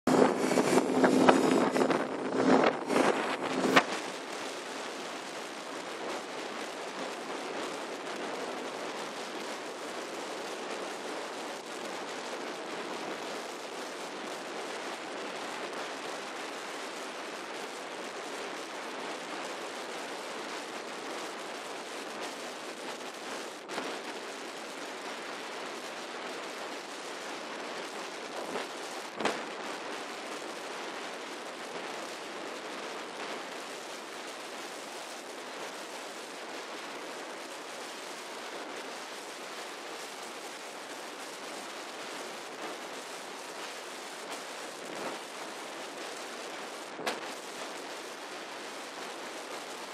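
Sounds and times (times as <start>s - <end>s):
rushing wind and road noise: 0.1s - 49.9s.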